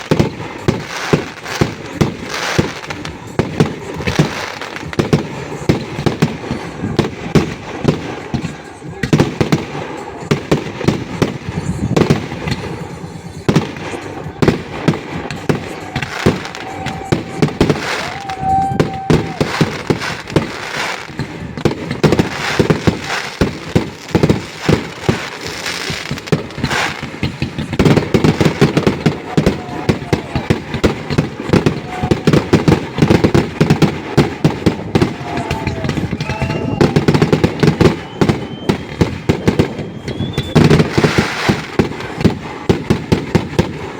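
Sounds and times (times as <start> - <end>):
fireworks bangs and crackling: 0.0 - 43.9
fireworks whistling: 0.0 - 43.9.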